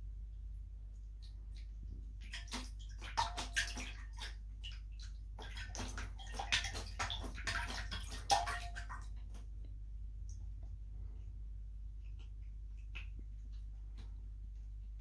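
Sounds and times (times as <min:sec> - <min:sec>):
kitten splashing water in bowl: 0:01.0 - 0:10.9, 0:11.8 - 0:14.6.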